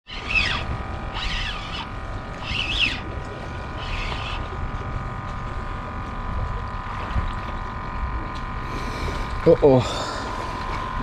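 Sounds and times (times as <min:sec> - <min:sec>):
water and wind noise: 0:00.0 - 0:11.0
faint hum: 0:00.1 - 0:11.0.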